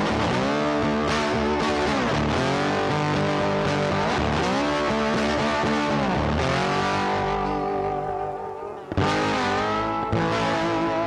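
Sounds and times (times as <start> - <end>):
guitar with bending notes: 0.0 - 11.0.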